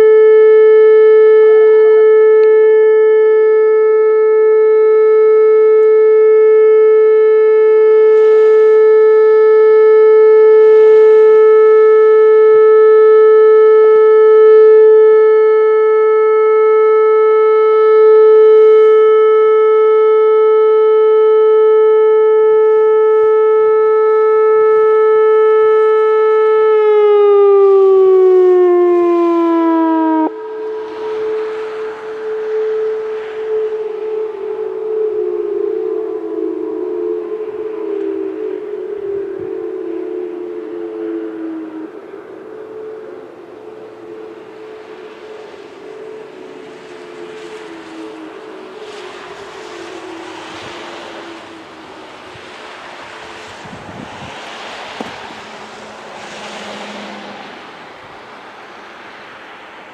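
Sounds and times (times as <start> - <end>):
electronic warning siren: 0.0 - 59.9.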